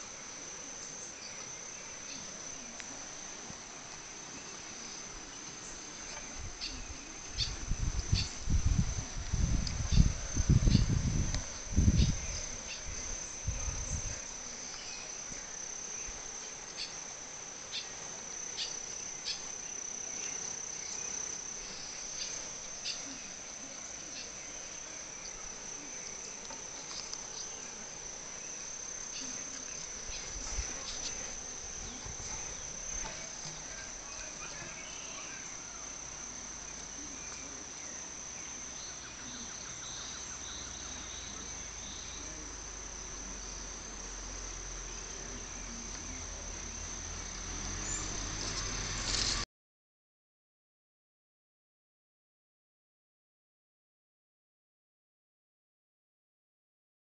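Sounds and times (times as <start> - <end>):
high-pitched insect chorus: 0.0 - 49.4.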